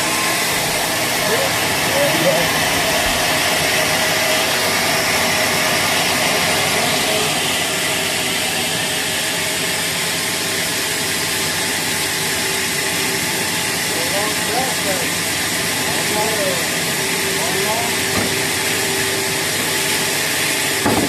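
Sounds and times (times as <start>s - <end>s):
sawmill machinery drone: 0.0s - 21.0s.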